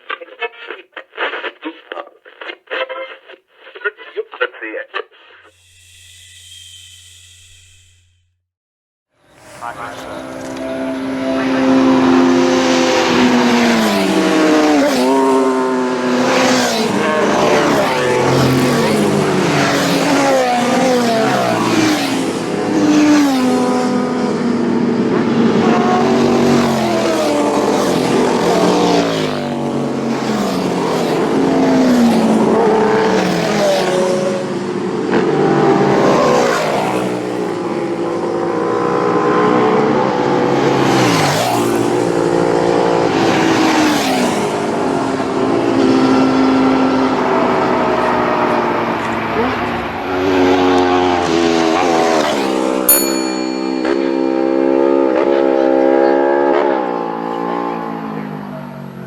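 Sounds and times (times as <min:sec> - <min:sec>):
racing motorcycles revving past: 0:09.2 - 0:59.0.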